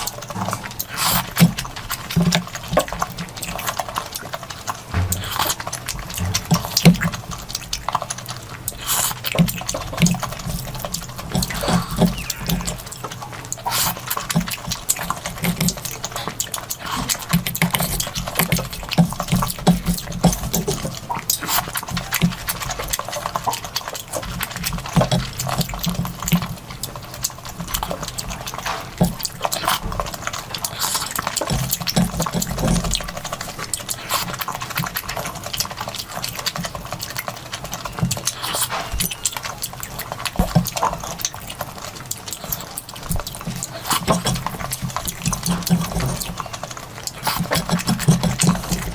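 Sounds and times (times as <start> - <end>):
wet chewing and lip-smacking: 0.0 - 48.9.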